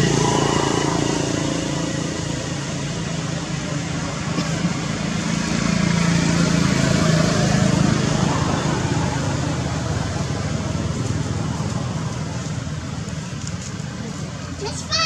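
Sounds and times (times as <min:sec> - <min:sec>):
motor vehicle engine running: 0:00.0 - 0:14.9
outdoor background noise: 0:00.0 - 0:15.0.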